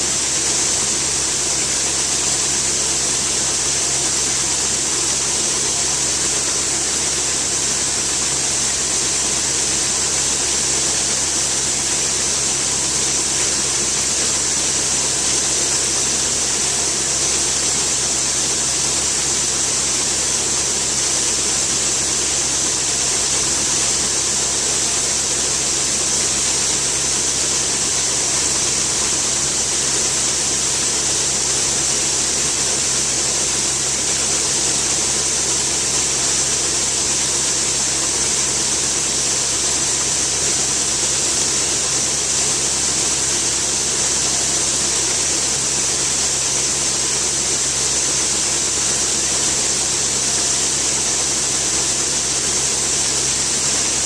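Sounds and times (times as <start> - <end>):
strong hiss: 0.0 - 54.0.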